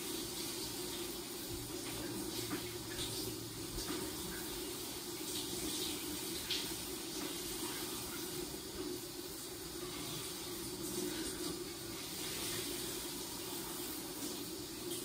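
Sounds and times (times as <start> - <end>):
shower water spraying: 0.0 - 15.0.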